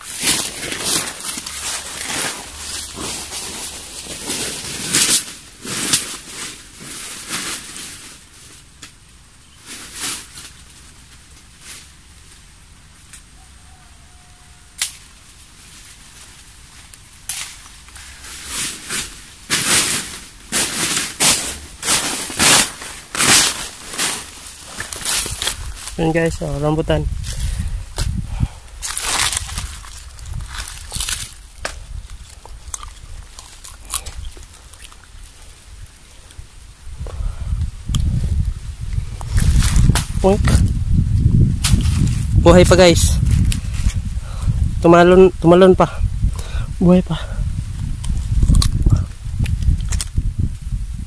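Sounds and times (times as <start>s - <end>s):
leaves and branches rustling: 0.0s - 51.0s.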